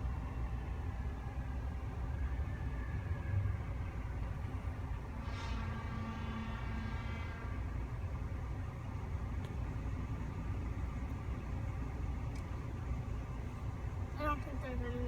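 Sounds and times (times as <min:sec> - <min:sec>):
road vehicle engines rumbling: 0:00.0 - 0:15.0.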